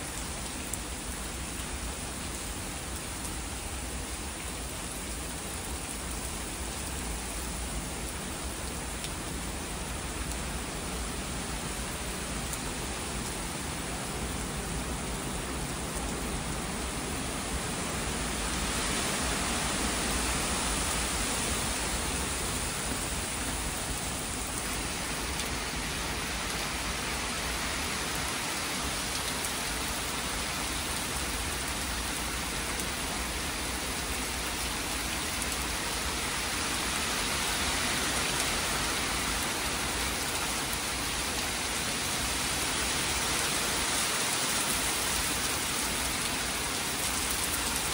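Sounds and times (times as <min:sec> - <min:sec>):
heavy rain through trees: 0:00.0 - 0:47.9.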